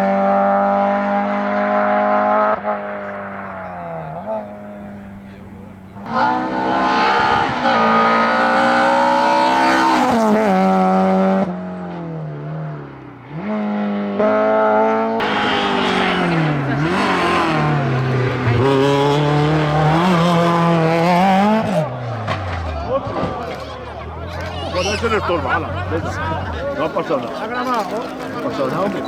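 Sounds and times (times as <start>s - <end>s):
racing car engine revving: 0.0s - 29.0s.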